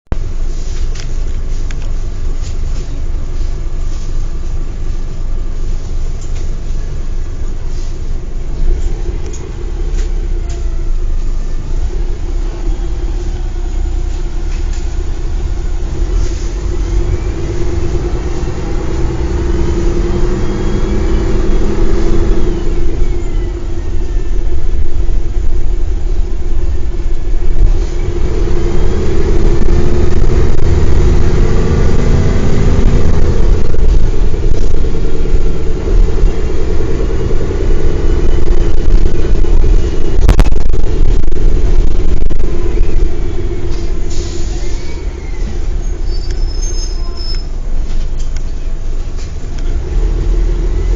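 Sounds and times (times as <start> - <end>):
bus diesel engine running: 0.1 - 50.9.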